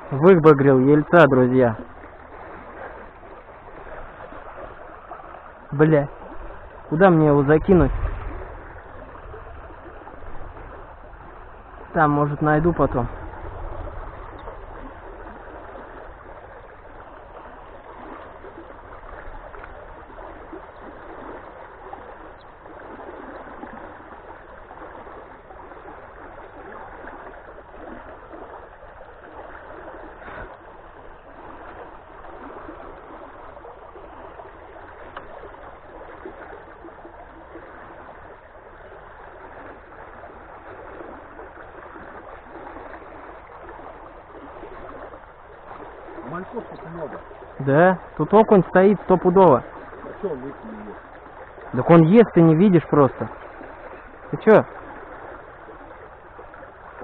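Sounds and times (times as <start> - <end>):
shallow water rushing and gurgling: 0.0 - 57.0
small water splashes: 0.0 - 57.0.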